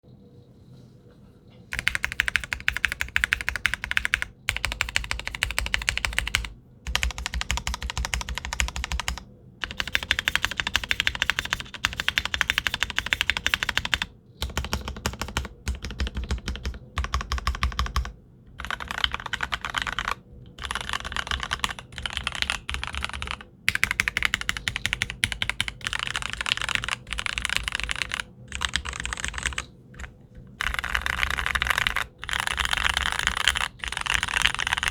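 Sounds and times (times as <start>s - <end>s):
fast mechanical keyboard typing: 1.7s - 34.9s.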